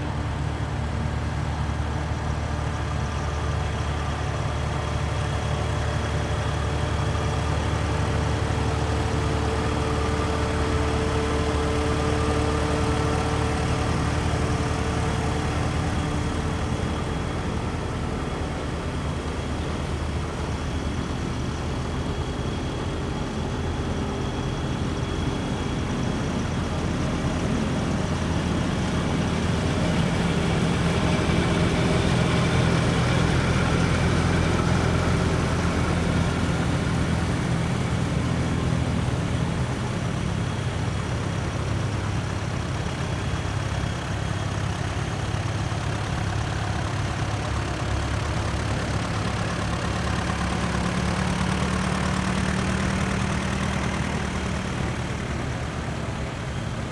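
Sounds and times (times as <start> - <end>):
tractor engines running: 0.0 - 56.9.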